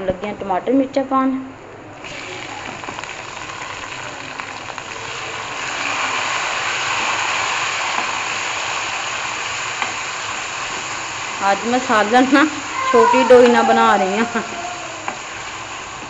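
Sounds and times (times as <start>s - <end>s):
tomatoes sizzling in hot fat: 2.0s - 16.0s.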